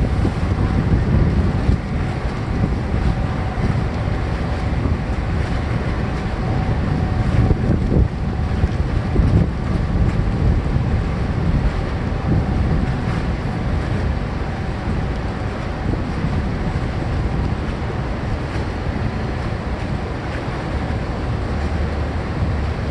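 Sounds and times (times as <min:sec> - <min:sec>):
boat engines rumbling: 0:00.0 - 0:22.9
wind buffeting microphone: 0:00.0 - 0:22.9.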